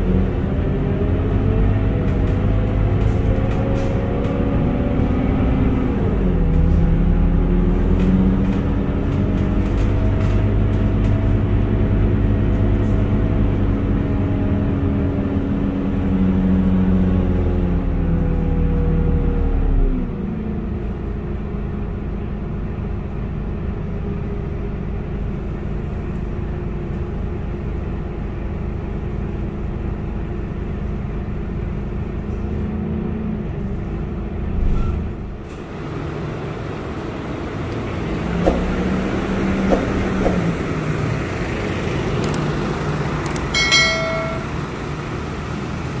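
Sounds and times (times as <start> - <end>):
bus diesel engine drone: 0.0 - 46.0.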